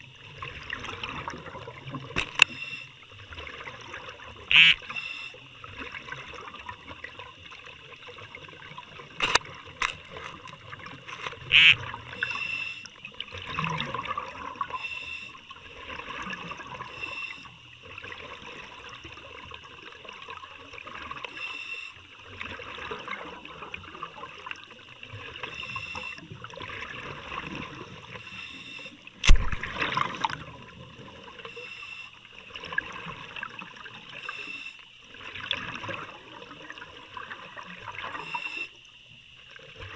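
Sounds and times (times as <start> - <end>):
underwater bubbling and gurgling: 0.0 - 39.9.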